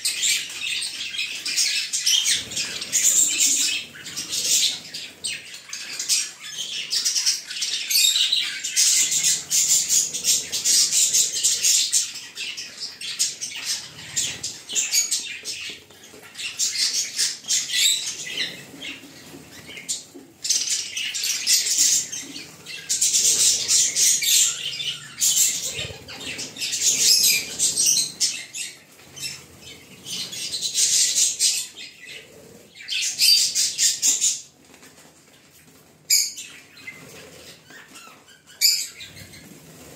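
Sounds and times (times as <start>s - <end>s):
budgerigars chattering and warbling: 0.0s - 34.5s, 36.1s - 39.8s.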